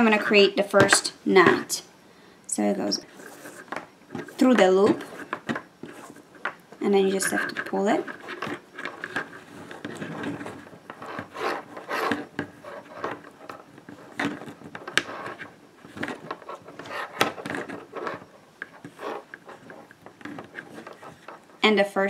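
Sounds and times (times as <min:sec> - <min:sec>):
cord scraping and rustling: 0:02.8 - 0:21.6.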